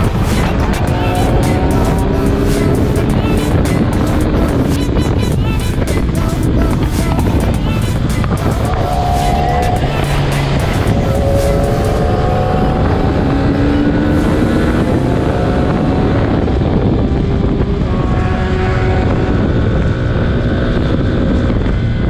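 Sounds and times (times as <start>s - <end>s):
motorcycle engine revving: 0.0s - 22.0s
wind noise on microphone: 0.0s - 22.0s.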